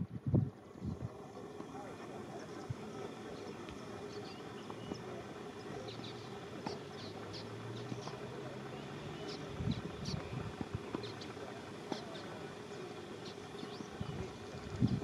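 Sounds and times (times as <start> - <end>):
low steady hum: 0.0 - 15.0
small birds chirping: 0.6 - 15.0.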